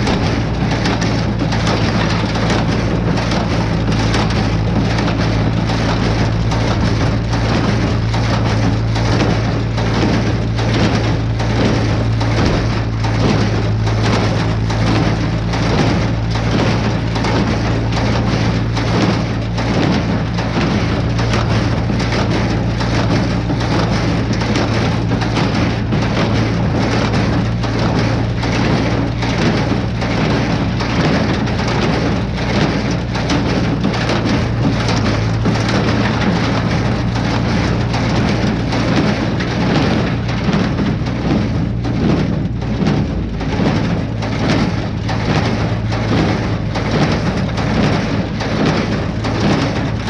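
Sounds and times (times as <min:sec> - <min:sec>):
hay baler rattling clatter: 0:00.0 - 0:50.0
tractor engine hum: 0:00.0 - 0:50.0.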